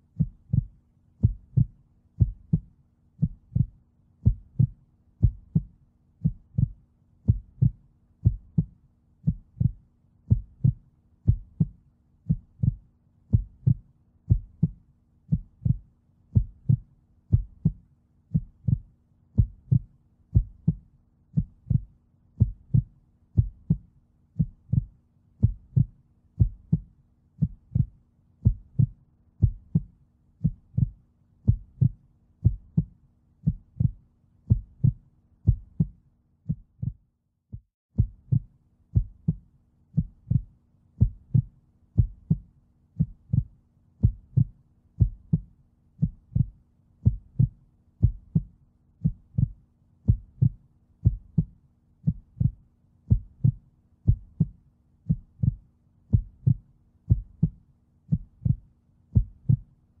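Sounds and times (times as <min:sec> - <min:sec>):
low thumping pulse: 0:00.2 - 0:18.8, 0:19.4 - 0:23.8, 0:24.4 - 0:37.0, 0:38.0 - 0:39.4, 0:40.0 - 0:42.4, 0:43.0 - 0:49.5, 0:50.1 - 0:54.5, 0:55.1 - 0:59.6.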